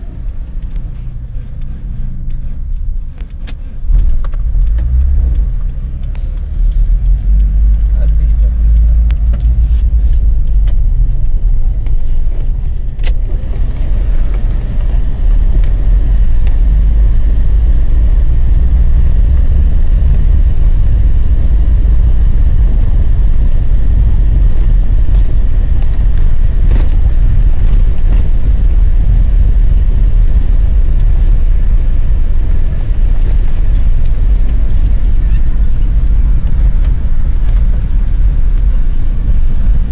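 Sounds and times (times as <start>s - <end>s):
road and tyre rumble in car: 0.0s - 39.9s.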